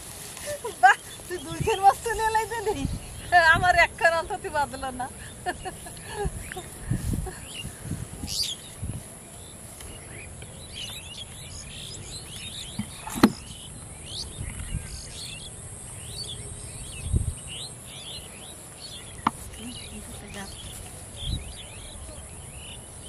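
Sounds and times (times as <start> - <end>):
birds chirping: 0.0 - 23.0
steady high-pitched hiss: 0.0 - 23.0.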